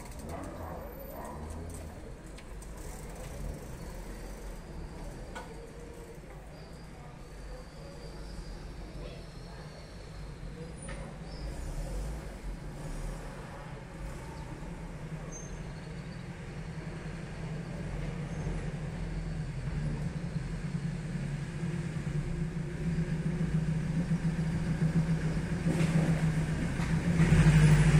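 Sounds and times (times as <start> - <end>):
vehicle engine humming: 0.0 - 6.6, 11.5 - 27.9.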